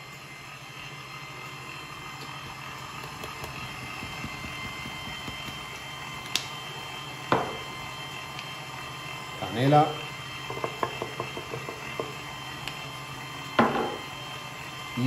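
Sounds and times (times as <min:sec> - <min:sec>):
electric stand mixer running: 0:00.0 - 0:15.0.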